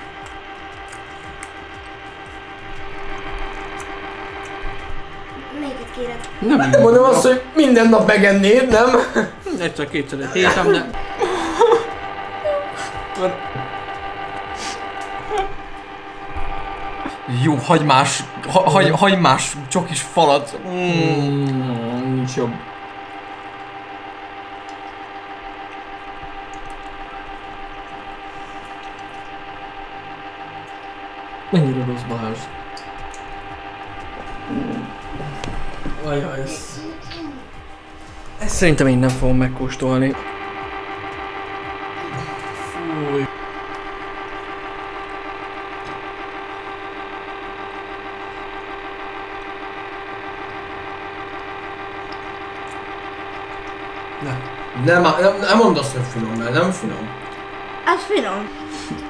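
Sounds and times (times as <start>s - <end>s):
chocolate fountain motor hum: 0.0s - 59.0s.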